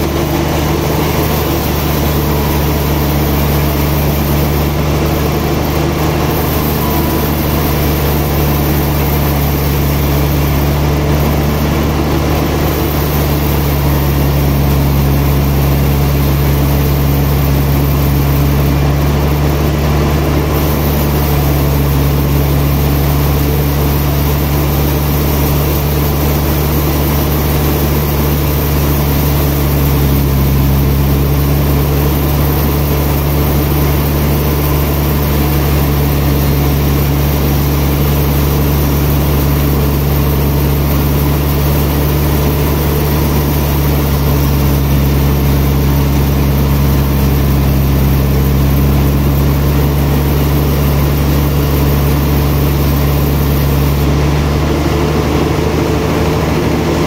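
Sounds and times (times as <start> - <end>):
sawmill machinery humming: 0.0 - 57.0.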